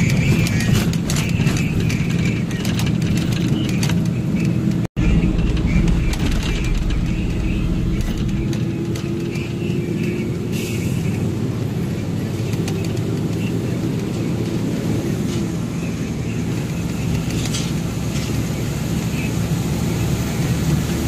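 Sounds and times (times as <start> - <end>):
road noise: 0.0 - 21.0
truck engine running: 0.0 - 21.0.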